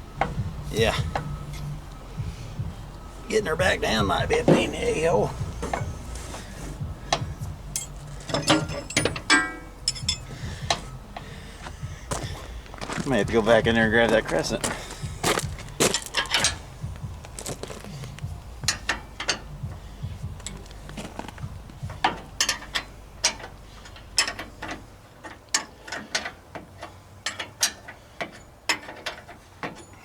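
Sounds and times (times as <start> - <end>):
low hum: 0.0 - 24.6
hand tools clicking on metal: 3.9 - 30.0.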